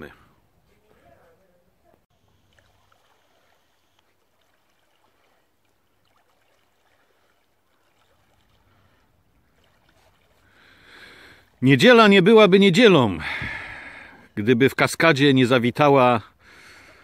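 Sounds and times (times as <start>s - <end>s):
lake water lapping: 0.8s - 14.4s, 16.2s - 17.0s.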